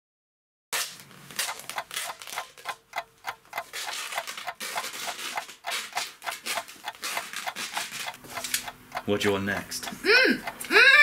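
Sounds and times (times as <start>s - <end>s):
clock ticking: 1.4s - 11.0s.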